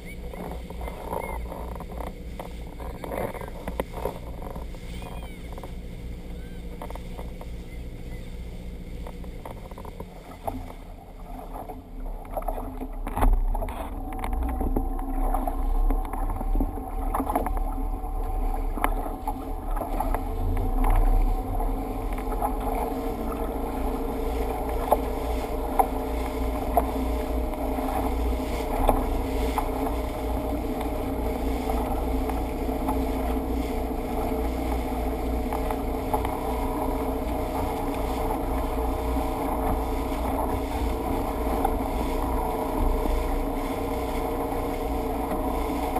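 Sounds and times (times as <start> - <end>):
motorboat engine drone: 0.0 - 45.9
wind rumbling on microphone: 0.0 - 45.9.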